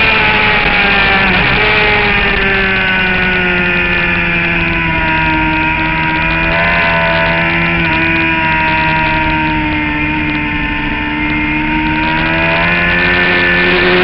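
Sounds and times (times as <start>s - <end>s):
motorcycle engine at speed: 0.0s - 14.0s.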